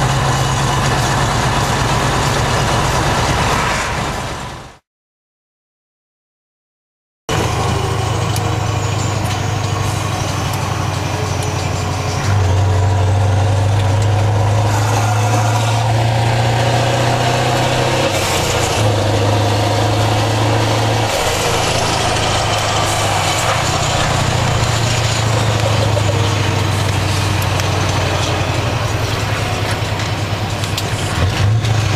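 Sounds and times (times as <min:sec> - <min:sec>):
diesel engine from inside cab: 0:00.0 - 0:04.8, 0:07.3 - 0:31.9.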